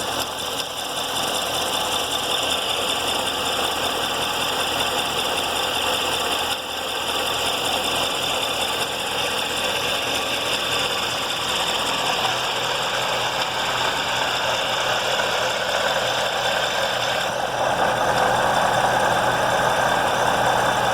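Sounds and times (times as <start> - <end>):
car engine running: 0.0 - 20.9.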